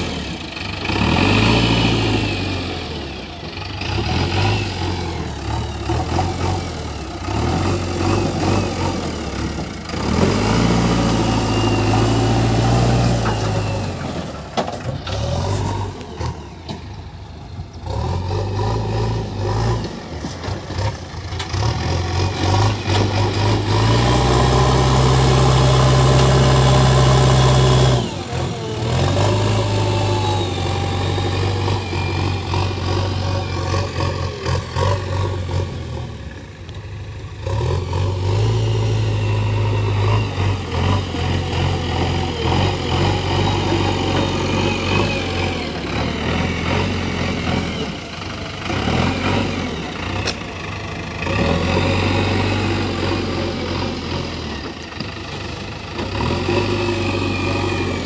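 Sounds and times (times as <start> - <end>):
diesel engine revving under load: 0.0 - 58.0.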